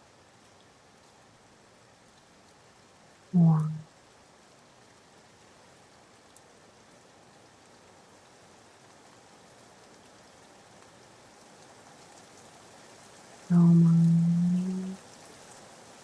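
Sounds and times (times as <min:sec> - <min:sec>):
faint steady rain: 0:00.0 - 0:16.0.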